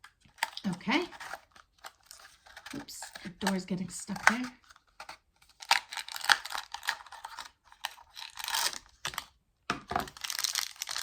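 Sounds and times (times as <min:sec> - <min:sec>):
plastic packaging crinkling: 0:00.2 - 0:11.0.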